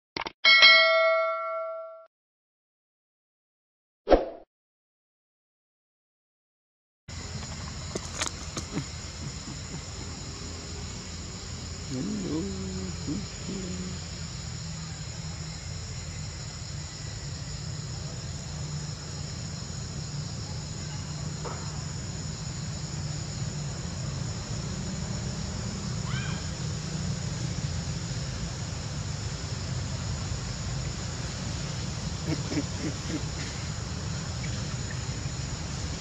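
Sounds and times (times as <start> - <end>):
insect chorus: 7.1 - 36.0.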